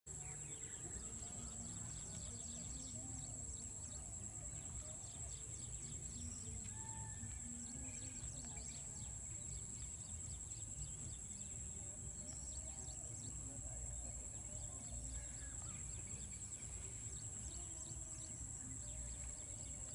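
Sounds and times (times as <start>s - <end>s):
birds chirping: 0.1s - 19.9s.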